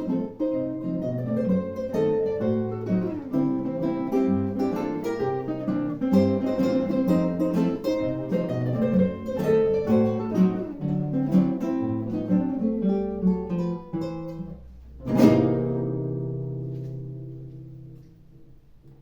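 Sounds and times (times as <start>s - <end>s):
acoustic guitar plucked notes: 0.0s - 19.0s.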